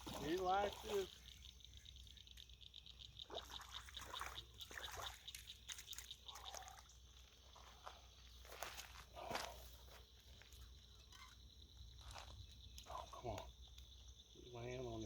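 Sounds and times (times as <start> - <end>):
river water trickling: 0.0 - 9.2, 10.0 - 14.4.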